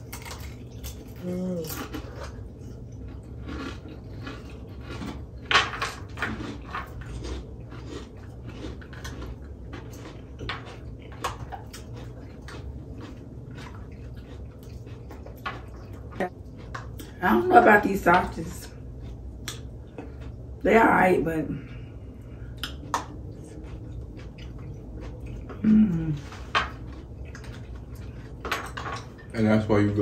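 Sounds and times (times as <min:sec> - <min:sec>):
crunching and chewing food: 0:00.0 - 0:20.6, 0:21.6 - 0:30.0
steady low hum: 0:00.0 - 0:30.0.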